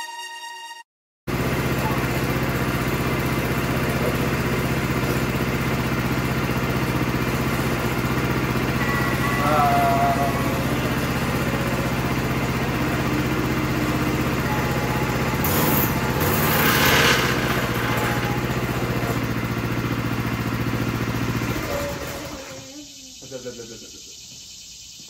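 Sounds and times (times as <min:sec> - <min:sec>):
small engine running: 0:01.3 - 0:24.2.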